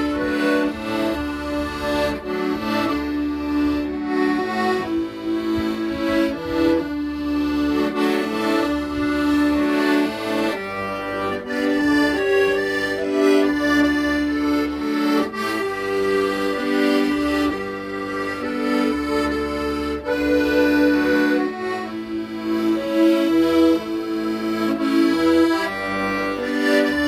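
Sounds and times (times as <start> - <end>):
accordion playing slow melody: 0.0 - 27.0.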